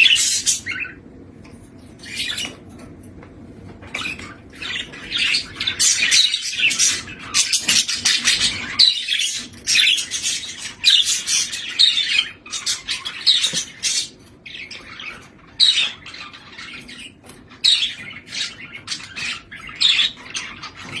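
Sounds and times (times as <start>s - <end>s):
budgie chirping and squawking: 3.9s - 21.0s.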